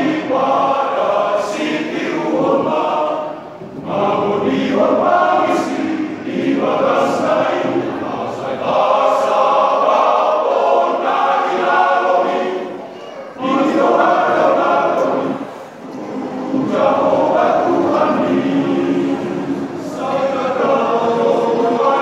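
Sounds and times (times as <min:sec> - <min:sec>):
men's choir singing in harmony: 0:00.0 - 0:22.0.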